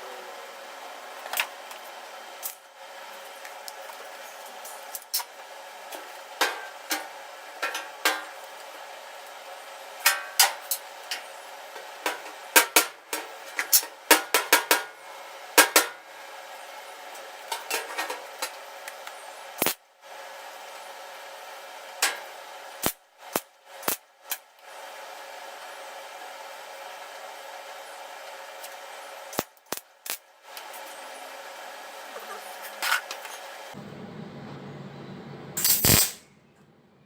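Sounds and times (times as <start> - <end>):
workshop hum: 0.0 - 37.0.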